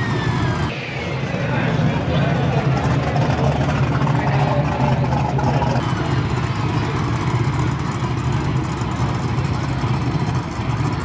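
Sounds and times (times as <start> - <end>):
race car engine idling: 0.0 - 11.0.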